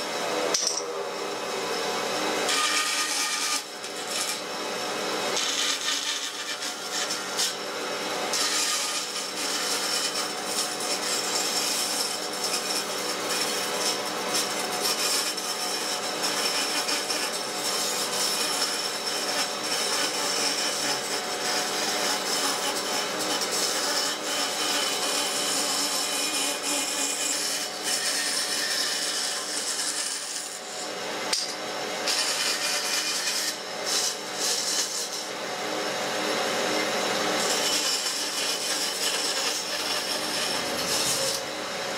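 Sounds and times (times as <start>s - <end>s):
bandsaw machine hum: 0.0s - 41.9s.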